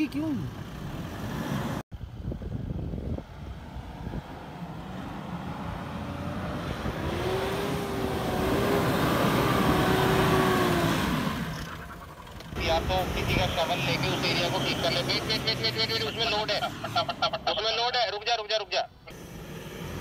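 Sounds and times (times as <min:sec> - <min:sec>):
engine working hard: 0:00.0 - 0:17.7, 0:19.1 - 0:20.0.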